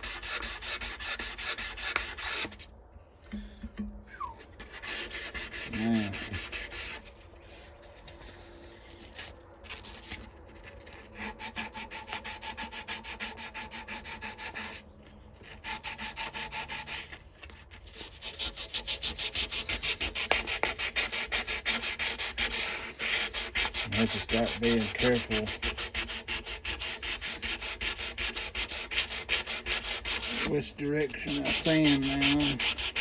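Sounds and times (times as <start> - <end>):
sandpaper rubbing on knife blade: 0.0 - 2.7, 4.4 - 33.0.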